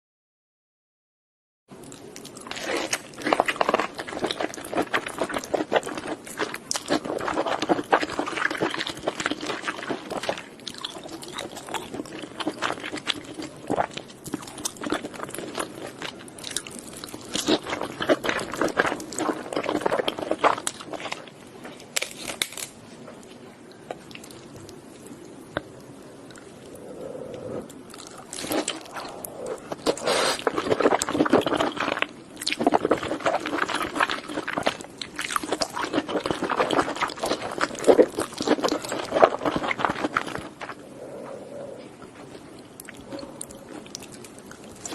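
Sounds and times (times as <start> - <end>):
crunching and chewing crisp food: 1.7 - 44.9.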